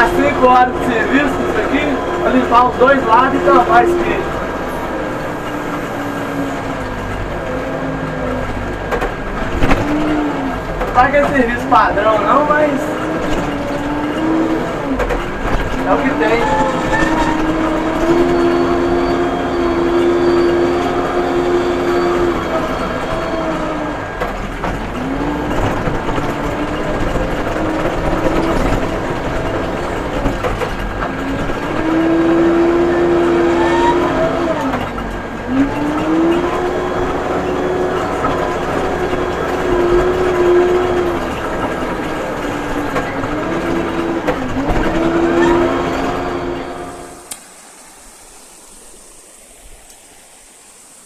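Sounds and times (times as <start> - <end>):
diesel engine under hydraulic load: 0.0 - 51.0.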